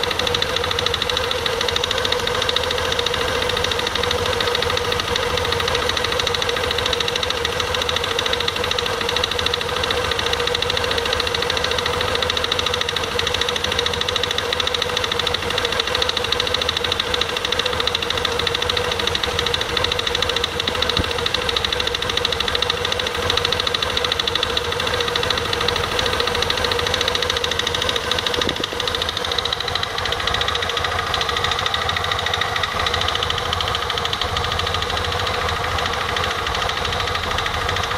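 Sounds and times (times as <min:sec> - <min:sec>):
scooter engine with rattle: 0:00.0 - 0:37.9.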